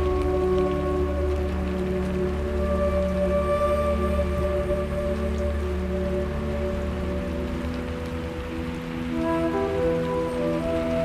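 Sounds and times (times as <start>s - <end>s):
rain hissing: 0.0s - 11.0s
soft ambient music: 0.0s - 11.0s.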